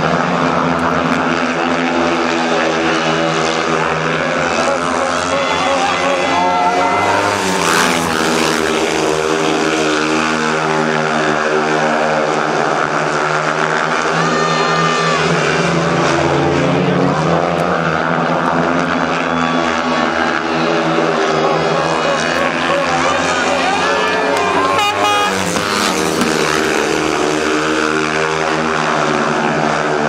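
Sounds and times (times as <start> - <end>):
motorcycle engines racing: 0.0 - 30.0.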